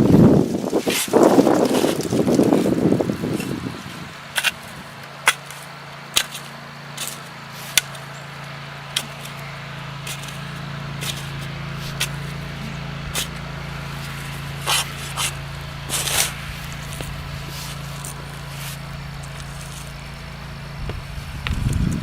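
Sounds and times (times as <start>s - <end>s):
low motor hum: 0.0s - 22.0s
shovel digging in soil: 0.6s - 8.1s, 8.9s - 20.2s.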